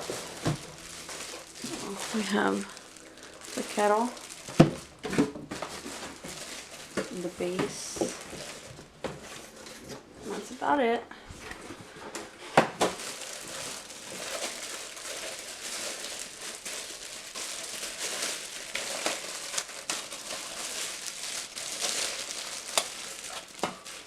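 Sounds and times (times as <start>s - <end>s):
packaging wrap crinkling: 0.0s - 10.0s, 12.8s - 24.0s.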